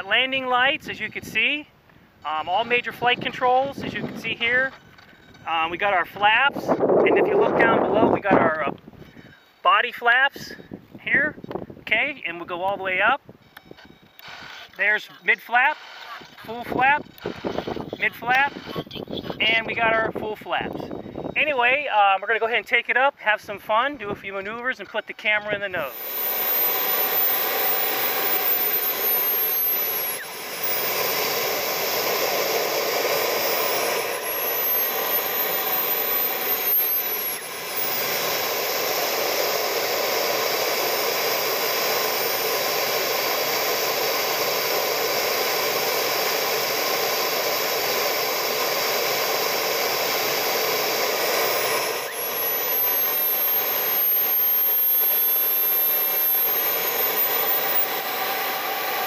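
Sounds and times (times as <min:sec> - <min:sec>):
model jet turbine whine: 0:02.2 - 0:09.4, 0:14.0 - 0:21.9, 0:25.4 - 0:59.0.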